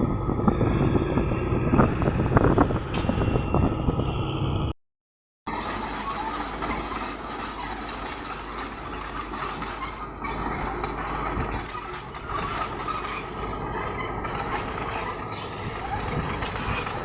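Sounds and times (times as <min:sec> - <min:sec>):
bulldozer diesel engine running: 0:00.0 - 0:04.7, 0:05.5 - 0:17.0.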